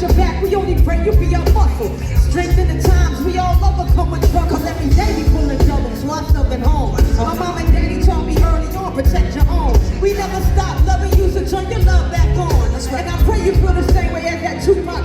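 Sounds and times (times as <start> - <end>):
hip hop music with bass beat: 0.0 - 15.0
person singing: 0.0 - 15.0.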